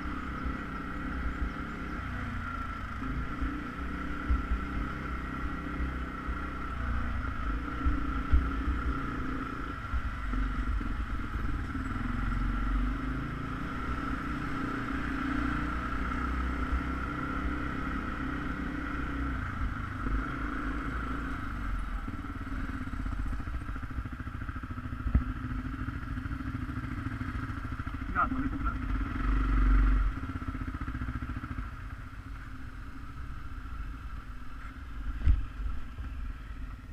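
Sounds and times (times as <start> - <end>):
atv engine rumbling: 0.0 - 36.9.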